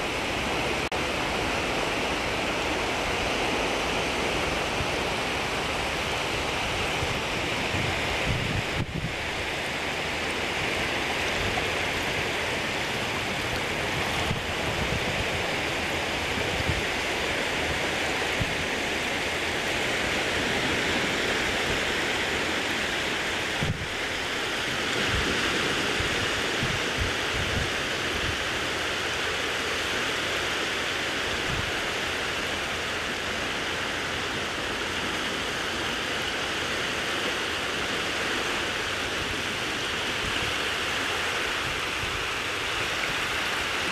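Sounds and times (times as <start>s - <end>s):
shallow water washing over sand: 0.0s - 43.9s.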